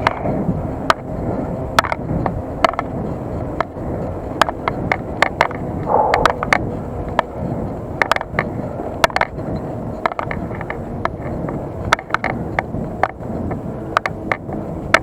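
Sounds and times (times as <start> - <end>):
bike clicks and rattles: 0.0 - 15.0
rumble of wind and tyres: 0.0 - 15.0.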